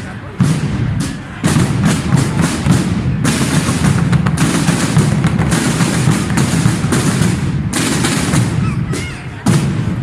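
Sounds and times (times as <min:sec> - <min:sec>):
rapid percussive bangs: 0:00.4 - 0:10.0.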